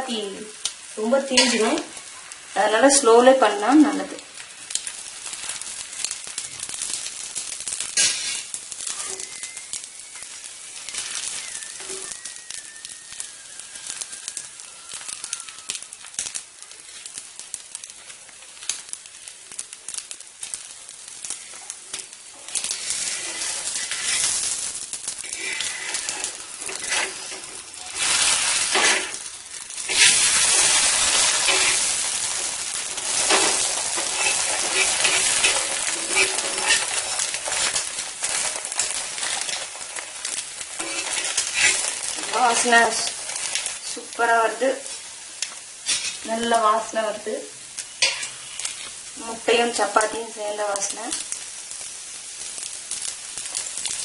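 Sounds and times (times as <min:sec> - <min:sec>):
food sizzling on a hot pan: 0:00.0 - 0:54.0.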